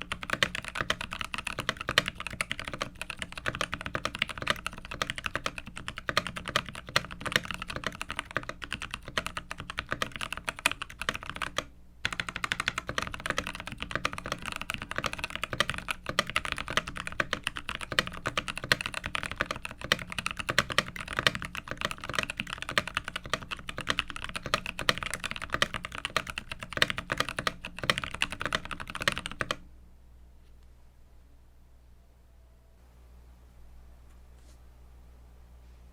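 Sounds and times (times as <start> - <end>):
typing on mechanical keyboard: 0.0 - 29.6.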